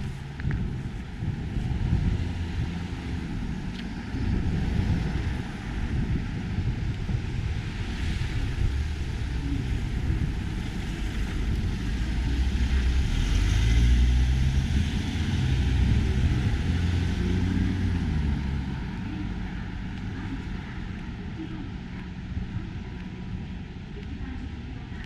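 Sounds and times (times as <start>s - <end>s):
passing vehicle engine rumble: 0.0s - 25.0s.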